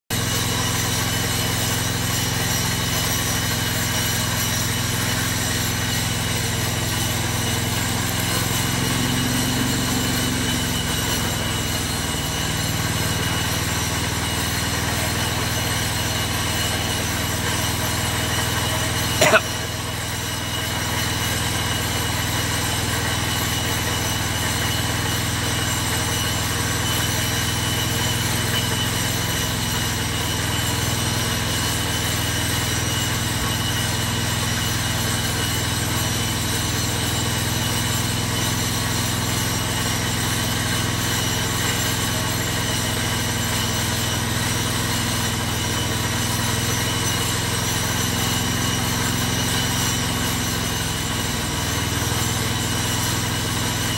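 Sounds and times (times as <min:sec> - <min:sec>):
engine idling: 0:00.1 - 0:53.9.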